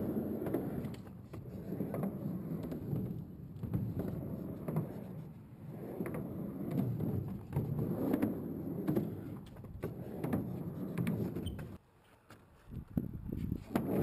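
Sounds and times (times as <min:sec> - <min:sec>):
skateboard clacks: 0:00.0 - 0:11.8, 0:12.4 - 0:14.0
skateboard wheels rumbling: 0:00.0 - 0:11.8, 0:12.5 - 0:14.0.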